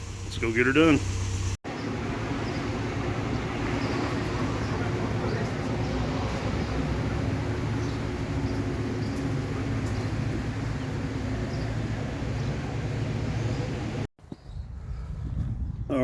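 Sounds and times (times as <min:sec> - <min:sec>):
engine running steadily: 0:00.0 - 0:14.1.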